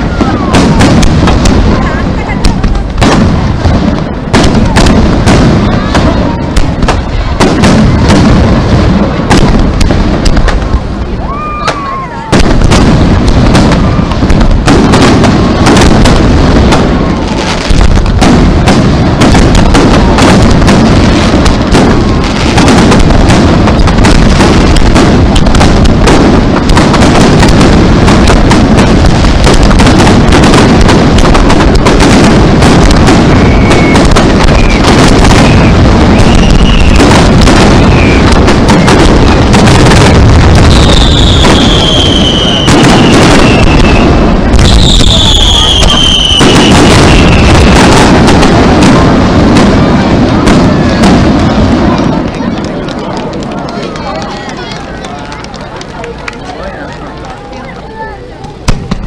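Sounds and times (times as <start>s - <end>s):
fireworks booming and crackling: 0.0s - 59.0s.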